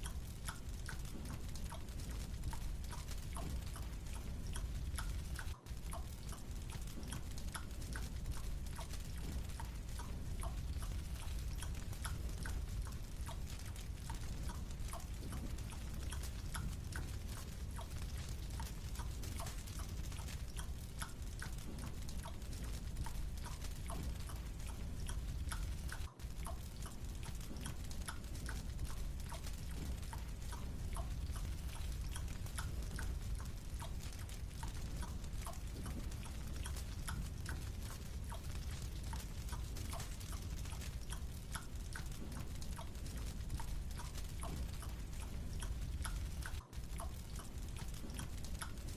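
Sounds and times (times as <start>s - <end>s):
low steady rumble: 0.0s - 48.9s
sticky chewing clicks: 0.0s - 48.9s.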